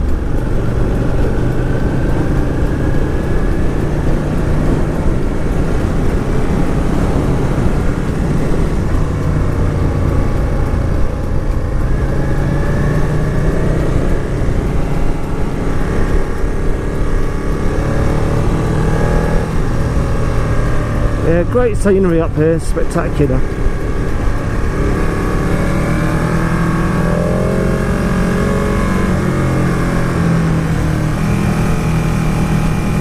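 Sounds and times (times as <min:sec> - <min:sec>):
motorcycle engine running: 0:00.0 - 0:33.0
wind rushing over microphone: 0:00.0 - 0:33.0.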